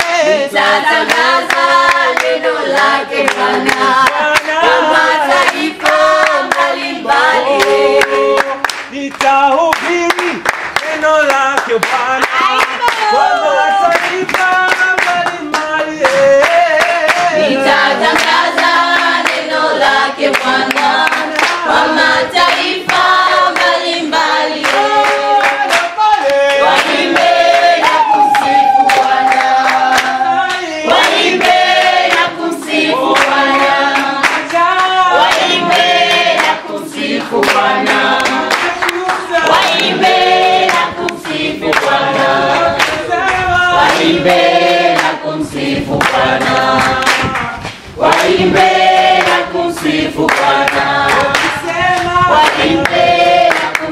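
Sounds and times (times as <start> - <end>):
hand clapping: 0.0 - 0.2, 1.0 - 6.8, 7.5 - 13.2, 13.9 - 17.4, 18.0 - 19.6, 20.2 - 23.8, 24.5 - 44.2, 44.9 - 45.2, 46.0 - 53.9
congregation singing: 0.0 - 53.9.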